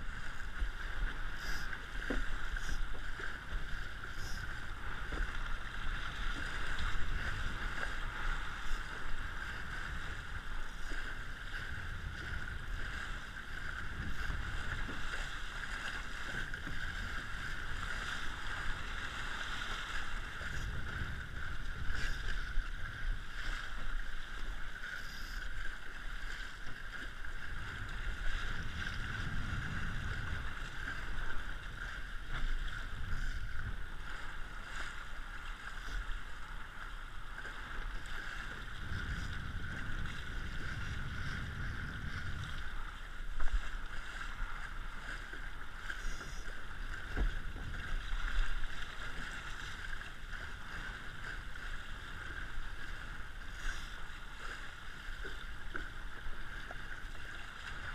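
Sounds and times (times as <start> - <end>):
wind buffeting microphone: 0.0 - 24.6, 26.2 - 34.8, 35.7 - 53.7
low wind rumble: 0.0 - 57.9
water rushing past hull: 0.0 - 57.9.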